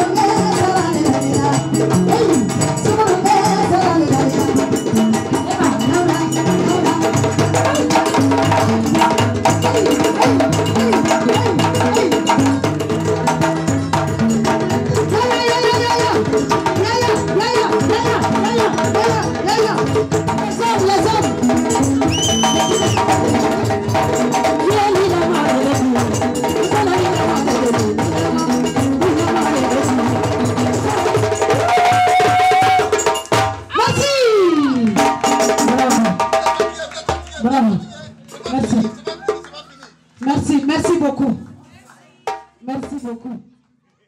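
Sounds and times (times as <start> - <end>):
fast hand percussion: 0.0 - 43.3.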